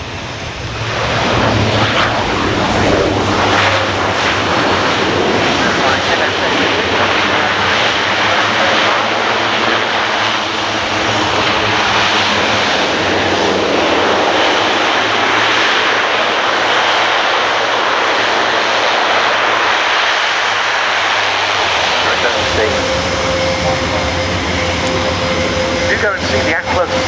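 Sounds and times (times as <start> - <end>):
turboprop engines running loud: 0.0 - 27.0.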